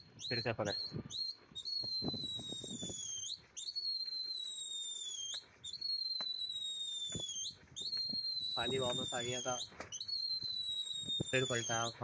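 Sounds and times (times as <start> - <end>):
person whistling loudly: 0.0 - 12.0.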